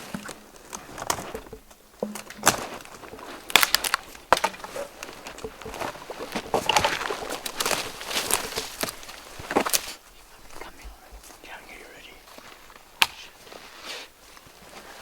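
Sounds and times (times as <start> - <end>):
footsteps through dry brush: 0.0 - 15.0.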